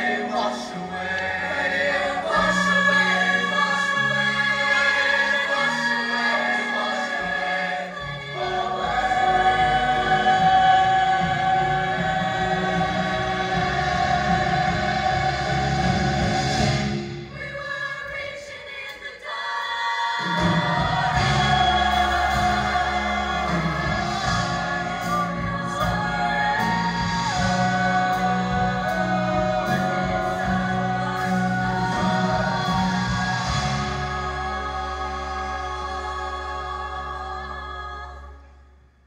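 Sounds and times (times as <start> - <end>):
choir singing with accompaniment: 0.0 - 38.8.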